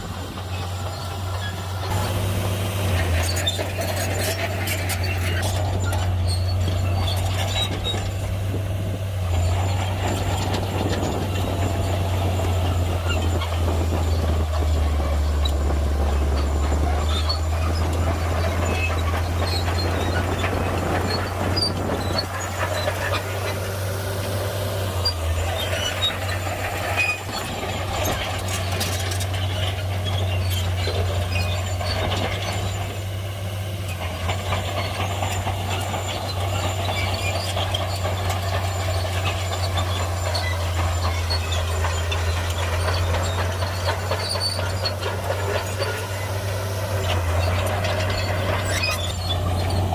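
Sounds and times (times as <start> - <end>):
bulldozer diesel engine drone: 0.0 - 49.9.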